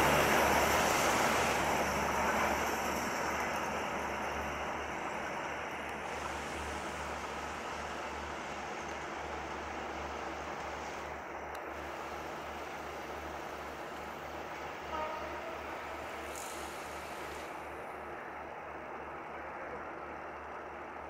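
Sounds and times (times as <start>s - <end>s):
train coaches rumbling on rails: 0.0s - 21.0s.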